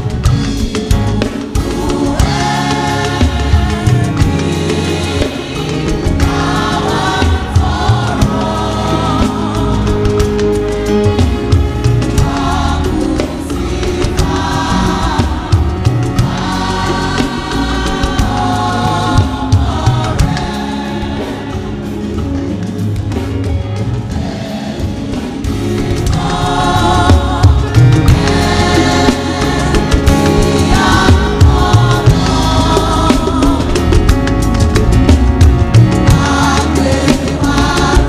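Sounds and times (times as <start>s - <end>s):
church choir singing a hymn: 0.0s - 38.0s
low instrumental accompaniment: 0.0s - 38.0s.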